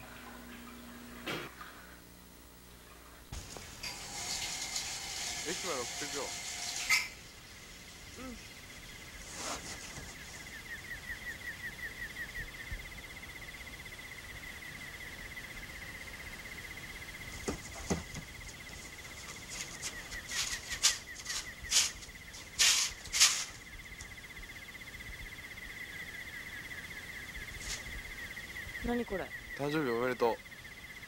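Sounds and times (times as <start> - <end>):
high-pitched insect trill: 3.4 - 31.0.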